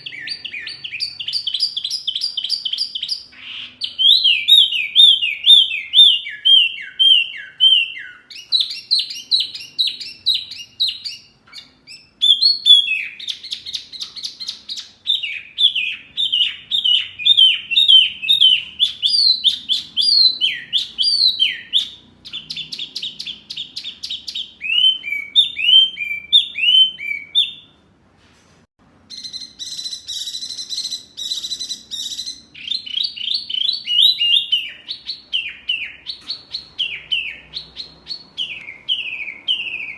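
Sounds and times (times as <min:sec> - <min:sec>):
songbird whistles and trills: 0:00.0 - 0:27.8, 0:29.1 - 0:39.9.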